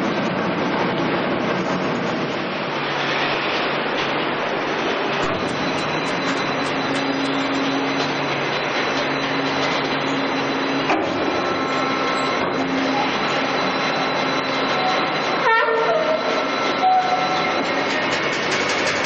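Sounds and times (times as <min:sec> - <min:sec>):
industrial shredder running: 0:00.0 - 0:15.4.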